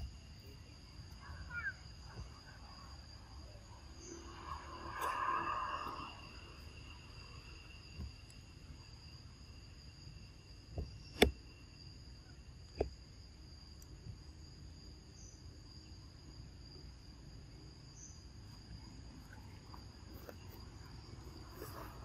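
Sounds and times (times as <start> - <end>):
insects chirping: 0.0 - 22.0
outdoor background hum: 0.0 - 22.0.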